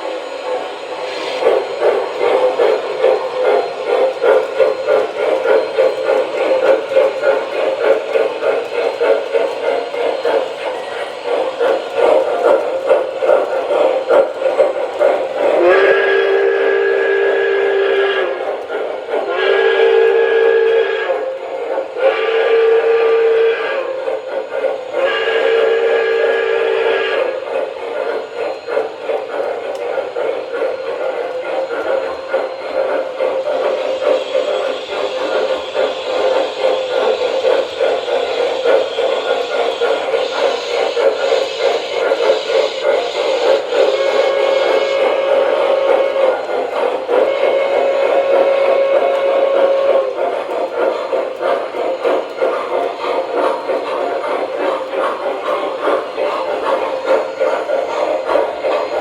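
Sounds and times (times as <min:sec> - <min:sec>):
electronic steam chuff: 0:00.0 - 0:59.0
model train running noise: 0:00.0 - 0:59.0.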